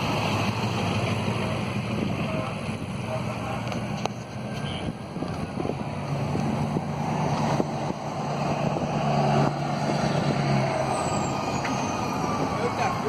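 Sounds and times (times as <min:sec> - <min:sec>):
large vehicle engine running: 0:00.0 - 0:13.0
wind buffeting microphone: 0:00.0 - 0:13.0.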